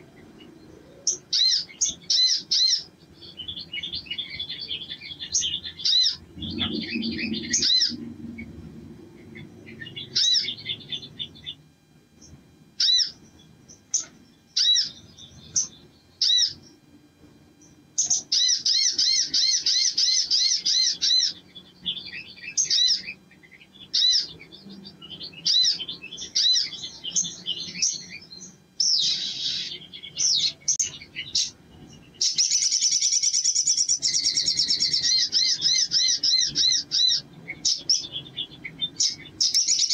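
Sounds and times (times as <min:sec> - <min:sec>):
sunbird singing and trilling: 0:00.0 - 0:39.9.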